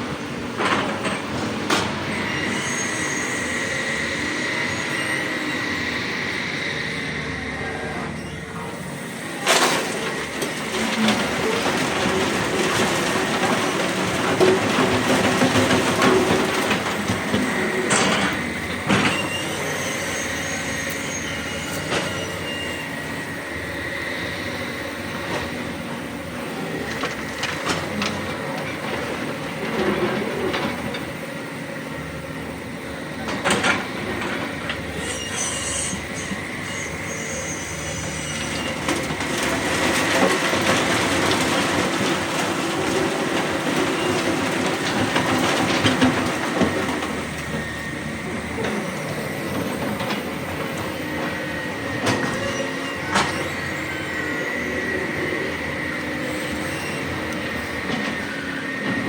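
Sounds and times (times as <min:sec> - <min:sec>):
excavator diesel engines: 0:00.0 - 0:59.0.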